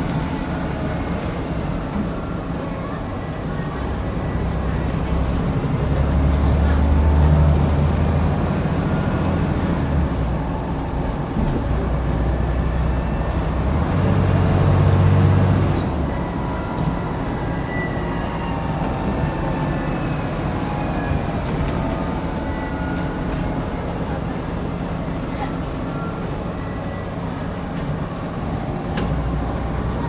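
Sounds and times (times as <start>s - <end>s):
bus diesel engine: 0.0s - 30.0s.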